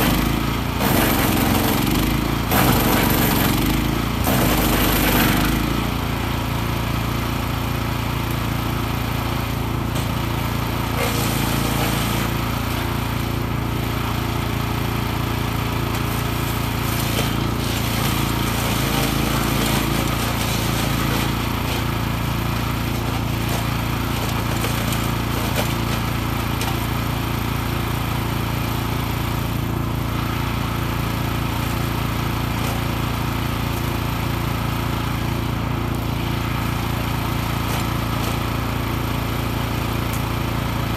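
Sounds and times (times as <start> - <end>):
branches crackling in chipper: 0.0 - 40.9
wood chipper engine running: 0.0 - 40.9.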